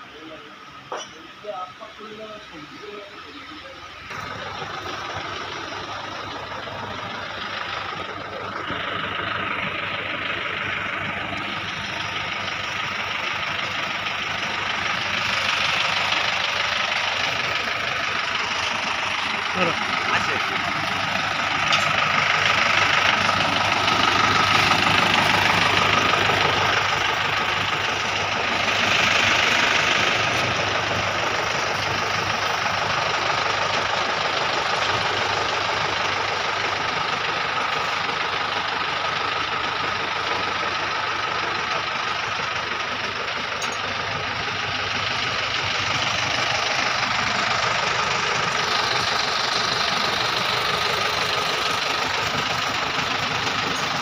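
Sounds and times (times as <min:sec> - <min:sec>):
van engine idling: 0:00.0 - 0:54.0.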